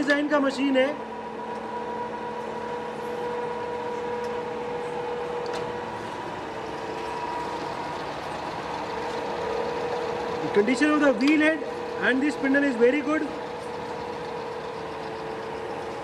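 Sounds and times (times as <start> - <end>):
grinding machine humming and whining: 0.0 - 16.0.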